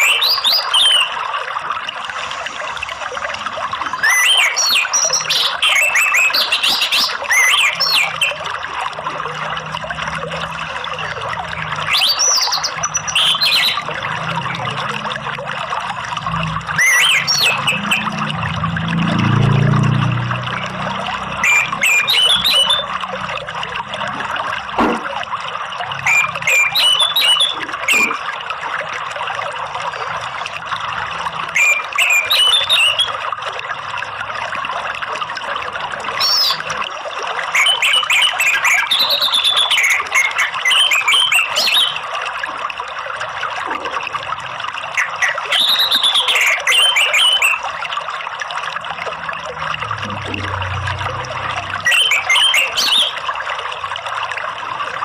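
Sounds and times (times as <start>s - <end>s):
trickling running water: 0.0s - 55.0s.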